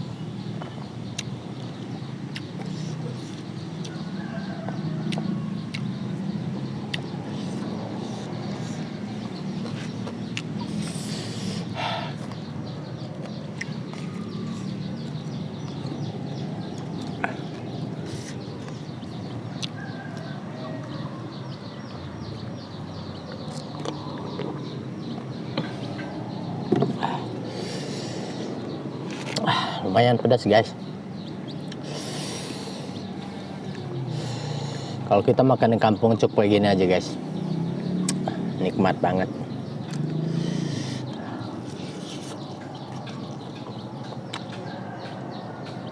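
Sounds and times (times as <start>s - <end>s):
birds calling: 0.0s - 45.9s.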